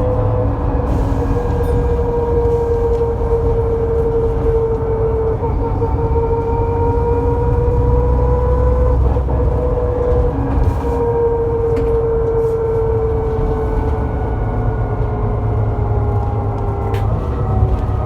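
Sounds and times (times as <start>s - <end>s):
bus axle whining: 0.0s - 18.0s
engine and road rumble: 0.0s - 18.0s.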